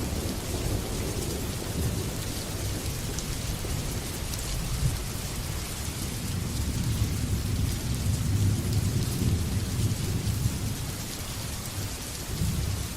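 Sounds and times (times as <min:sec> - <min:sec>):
steady rain: 0:00.0 - 0:12.9.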